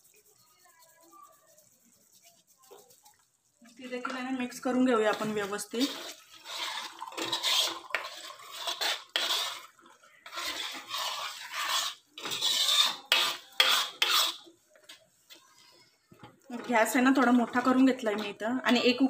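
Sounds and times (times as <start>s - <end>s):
metal spoon scraping a pan: 0.0s - 19.0s.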